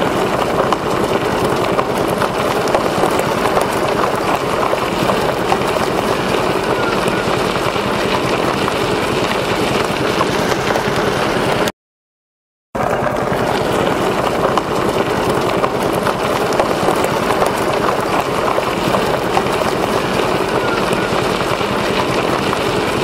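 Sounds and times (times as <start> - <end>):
wheel rolling on gravel: 0.0 - 11.7, 12.8 - 23.0.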